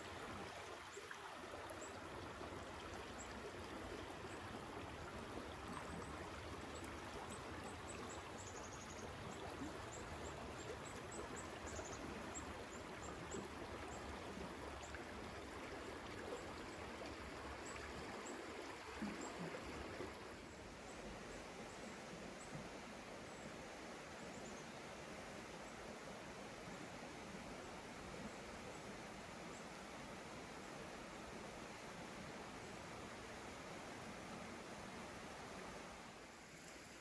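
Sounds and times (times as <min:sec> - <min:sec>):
stream water rushing: 0:00.0 - 0:24.1, 0:24.9 - 0:37.0.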